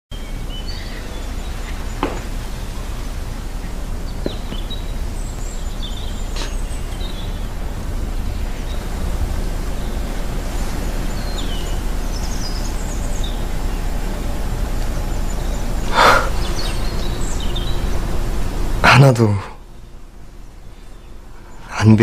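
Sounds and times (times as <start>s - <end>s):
low ambient background noise: 0.1s - 22.0s.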